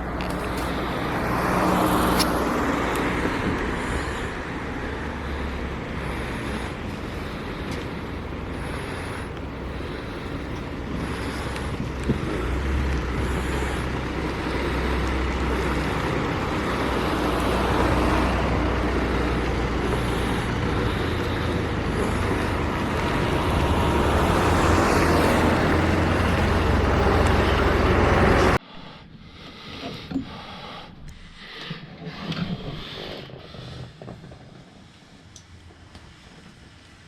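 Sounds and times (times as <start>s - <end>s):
bus engine hum: 0.0s - 29.4s, 32.3s - 37.0s
road noise: 0.0s - 37.0s.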